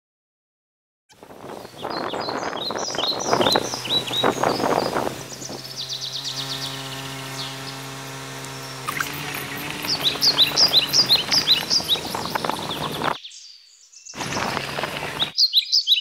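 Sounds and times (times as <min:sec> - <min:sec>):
birds chirping: 0:01.1 - 0:16.0.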